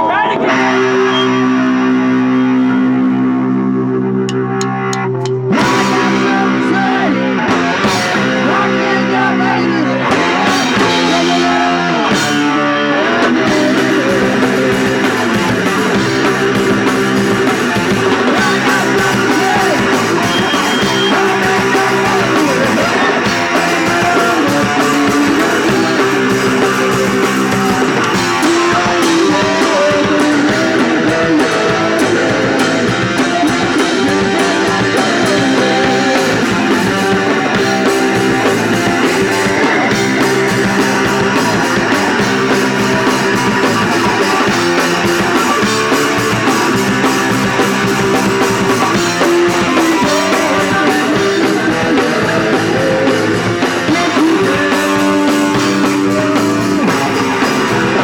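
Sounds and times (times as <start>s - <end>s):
distorted electric guitar: 0.0s - 58.0s
drums: 0.0s - 58.0s.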